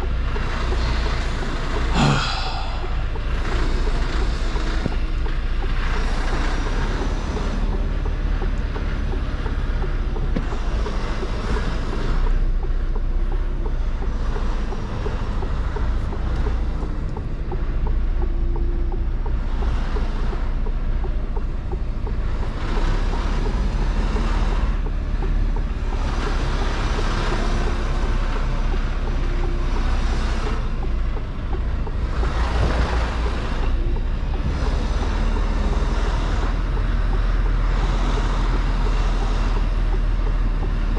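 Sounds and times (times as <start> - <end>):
road and wind noise: 0.0 - 40.9
truck engine rumble: 0.0 - 40.9.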